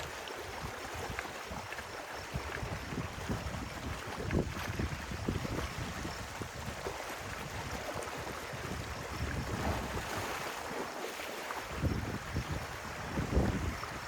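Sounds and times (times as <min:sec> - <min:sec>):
wind buffeting microphone: 0:00.0 - 0:10.8, 0:11.6 - 0:14.0
stream water rushing and splashing: 0:00.0 - 0:14.0.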